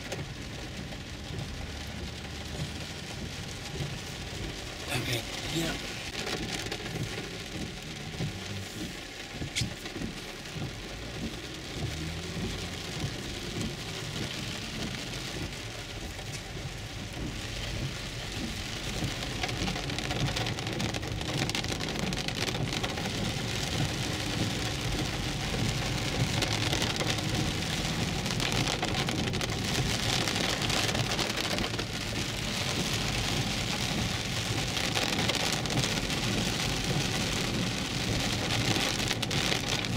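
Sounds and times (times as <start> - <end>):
heavy rain on car roof: 0.0 - 39.9
tyres on wet road: 0.0 - 39.9.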